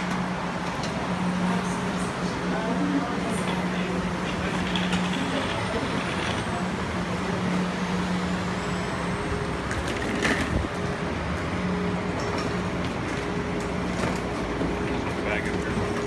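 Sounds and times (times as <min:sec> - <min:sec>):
knocks of passengers boarding: 0:00.0 - 0:07.7, 0:09.6 - 0:11.5, 0:12.1 - 0:16.0
train mechanical hum: 0:00.0 - 0:16.0.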